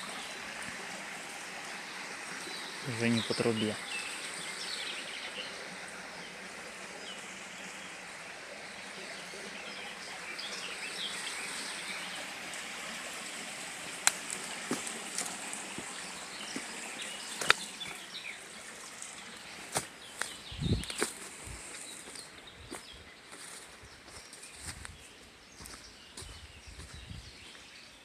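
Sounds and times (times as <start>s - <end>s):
river flowing and trickling: 0.0s - 28.0s
small birds chirping: 1.6s - 28.0s.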